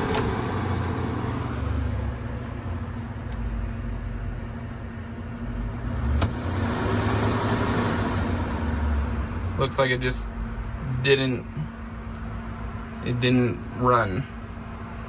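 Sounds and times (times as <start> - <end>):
air conditioner humming: 0.0 - 15.0
fan noise: 0.0 - 15.0.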